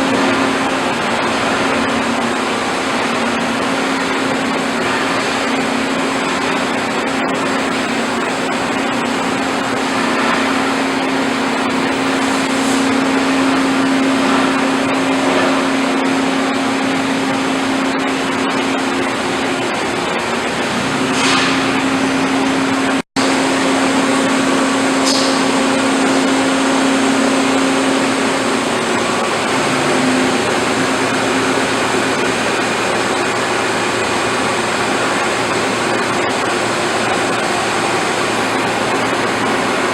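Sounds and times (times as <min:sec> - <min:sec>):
boring mill whirring: 0:00.0 - 0:39.9.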